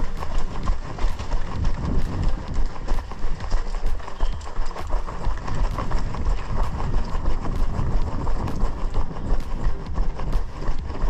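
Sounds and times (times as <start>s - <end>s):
running footsteps on gravel: 0.0s - 11.0s
wind rumbling on microphone: 0.0s - 11.0s.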